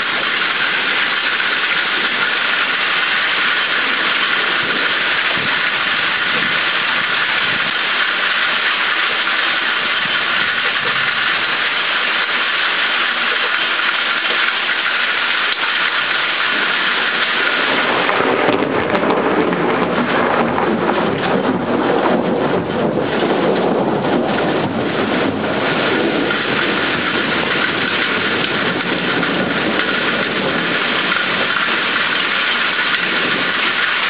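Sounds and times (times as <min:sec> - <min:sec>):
rumble of thunder: 0:00.0 - 0:14.6, 0:15.4 - 0:34.0
heavy rain: 0:00.0 - 0:34.0.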